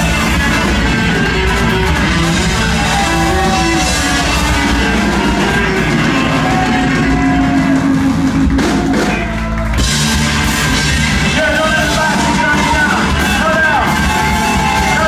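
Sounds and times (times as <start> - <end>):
ska band playing live: 0.0 - 15.0.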